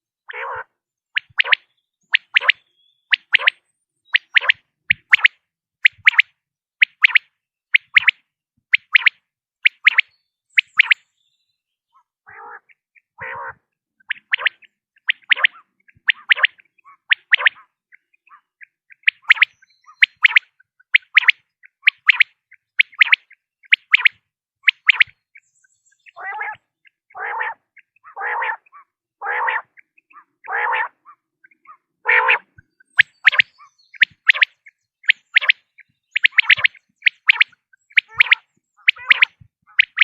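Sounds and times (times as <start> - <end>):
low buzzy quail calls: 0.0 - 8.2, 11.9 - 40.0
quail calling: 0.3 - 7.2, 11.9 - 25.2, 26.0 - 40.0.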